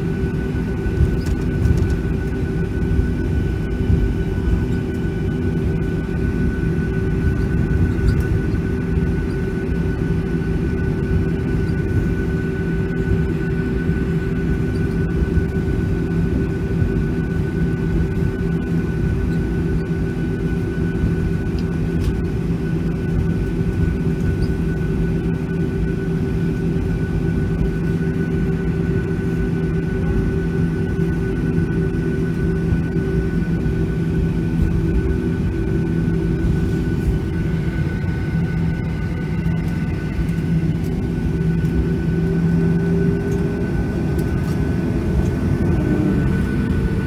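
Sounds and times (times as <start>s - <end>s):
jet engine cabin drone: 0.0s - 47.0s.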